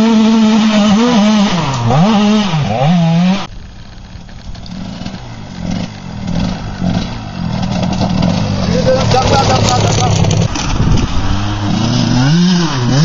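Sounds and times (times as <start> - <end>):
dirt bike engine revving: 0.0 - 13.0
distant motorbike engine: 0.0 - 13.0.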